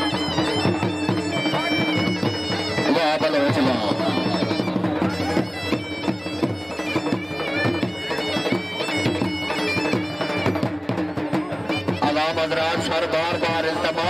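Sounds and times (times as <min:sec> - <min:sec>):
bagpipe playing folk melody: 0:00.0 - 0:14.0
drum beats: 0:00.0 - 0:14.0.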